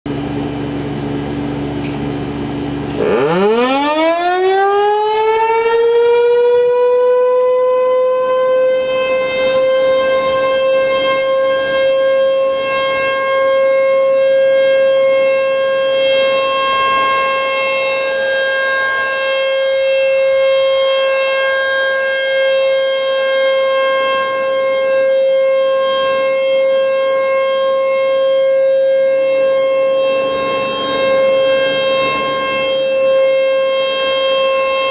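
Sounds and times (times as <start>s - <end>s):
outdoor warning siren: 2.3s - 34.9s.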